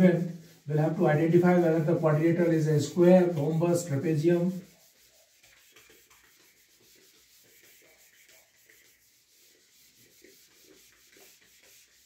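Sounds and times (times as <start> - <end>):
eraser rubbing on whiteboard: 0.0 - 12.0.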